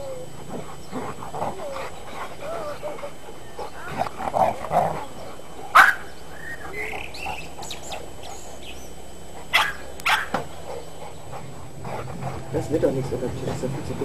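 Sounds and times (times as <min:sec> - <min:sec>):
dogs barking in play: 0:00.0 - 0:14.0.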